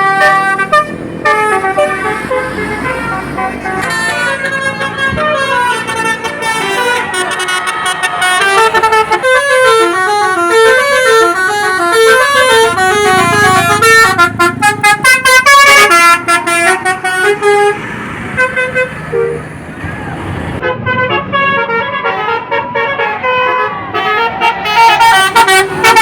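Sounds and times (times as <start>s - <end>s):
melody horn playing a tune: 0.0s - 17.8s, 18.4s - 19.4s, 20.6s - 26.0s.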